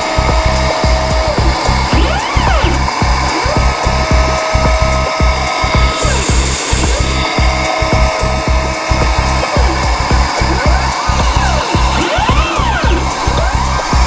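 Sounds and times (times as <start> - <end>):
background music with low beat: 0.0 - 14.0
milling machine spindle whining: 0.0 - 14.0.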